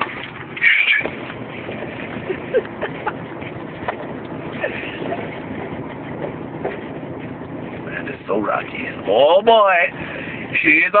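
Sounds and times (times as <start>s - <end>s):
car road noise on rough road: 0.0s - 11.0s.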